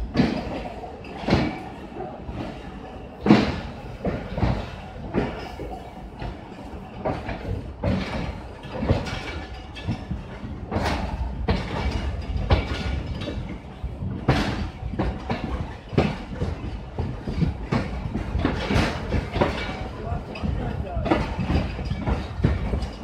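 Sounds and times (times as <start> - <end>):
train rumbling: 0.0 - 23.0
wheels clattering over rail joints: 0.0 - 23.0.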